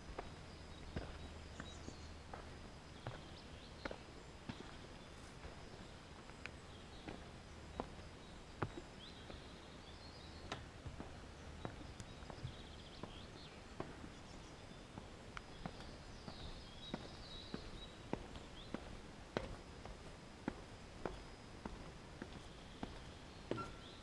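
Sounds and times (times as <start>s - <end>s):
bird calls: 0.0s - 19.1s, 22.2s - 24.0s
footsteps on forest trail: 0.0s - 24.0s.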